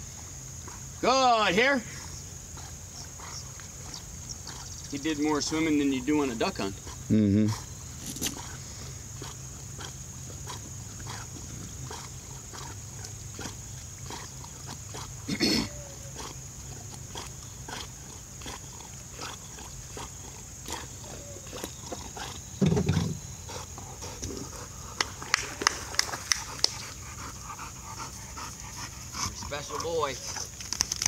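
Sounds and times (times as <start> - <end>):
dog panting: 1.9 - 30.6.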